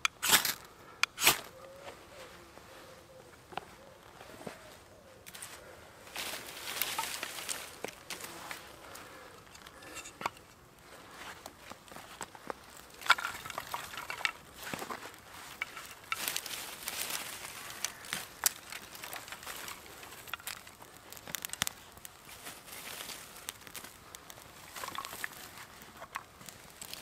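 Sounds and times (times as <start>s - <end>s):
twigs rustling: 0.0s - 27.0s
fire crackling: 5.2s - 27.0s.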